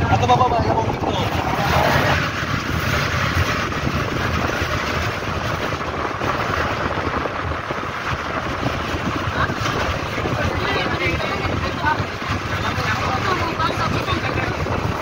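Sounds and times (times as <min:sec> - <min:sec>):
choppy sea water: 0:00.0 - 0:15.0
wind buffeting microphone: 0:00.0 - 0:15.0.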